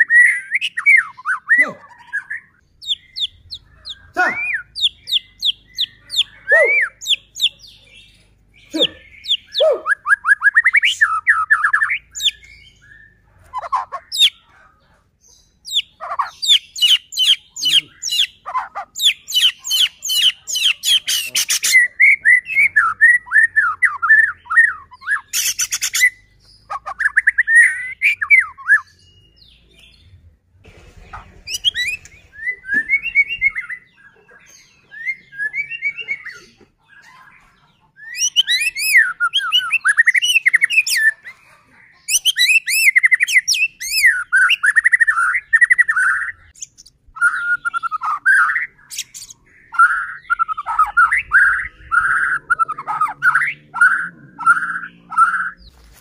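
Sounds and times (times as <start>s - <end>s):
songbird whistling song: 0.0s - 14.6s, 15.5s - 30.0s, 31.5s - 41.4s, 42.0s - 56.0s.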